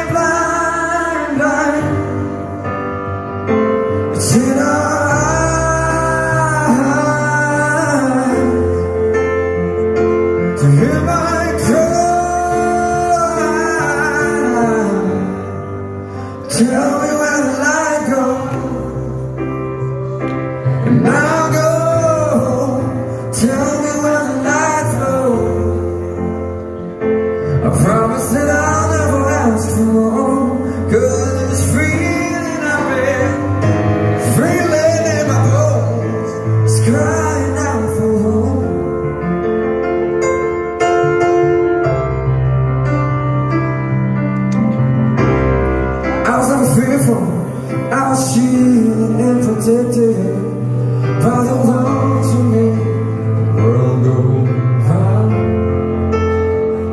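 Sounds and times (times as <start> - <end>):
man singing: 0.0 - 26.4, 27.4 - 40.1, 46.0 - 56.9
grand piano playing: 0.0 - 56.9.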